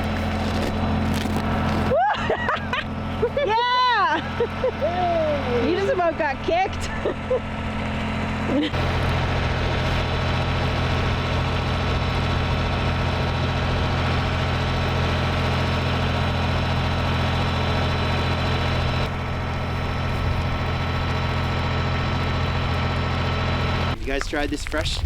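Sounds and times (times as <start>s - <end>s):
motor idling hum: 0.0s - 24.6s.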